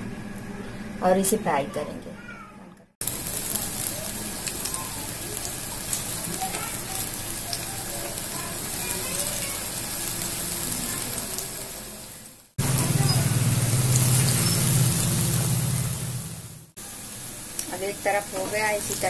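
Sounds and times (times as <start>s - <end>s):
deep-frying sizzle: 3.0s - 19.0s.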